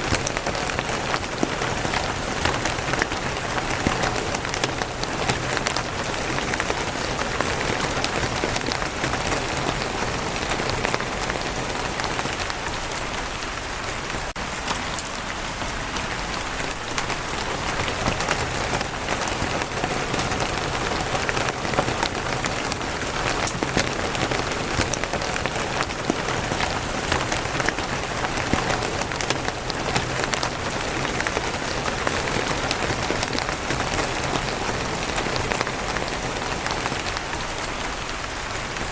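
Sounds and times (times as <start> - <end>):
rain on a wooden roof: 0.0 - 38.9.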